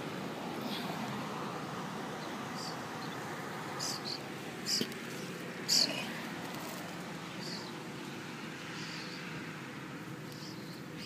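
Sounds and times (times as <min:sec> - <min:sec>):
distant traffic hum: 0:00.0 - 0:11.0.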